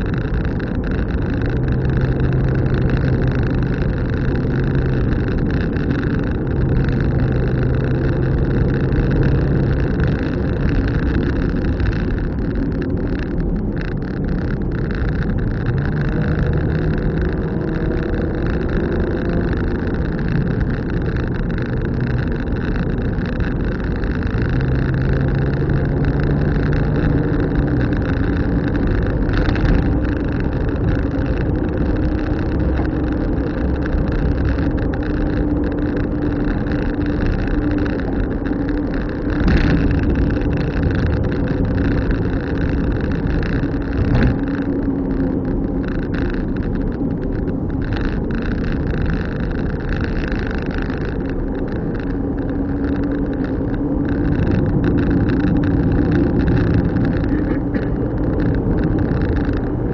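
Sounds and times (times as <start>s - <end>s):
car engine: 0.0s - 59.9s
road and tyre rumble: 0.0s - 59.9s.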